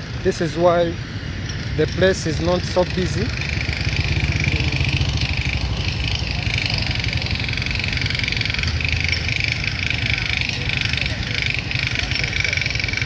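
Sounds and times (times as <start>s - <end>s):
road and traffic noise: 0.0s - 13.0s
vehicle engine running: 0.0s - 13.0s.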